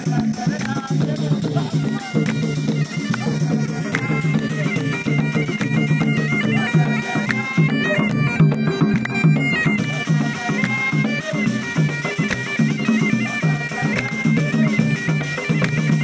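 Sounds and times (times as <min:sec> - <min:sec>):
bagpipe melody over drone: 0:00.0 - 0:16.0
hand drums beating: 0:00.0 - 0:16.0.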